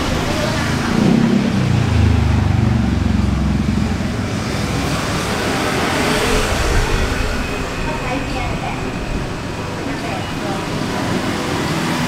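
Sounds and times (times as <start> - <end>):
low engine rumble: 0.0 - 11.8
outdoor background noise: 0.0 - 12.0.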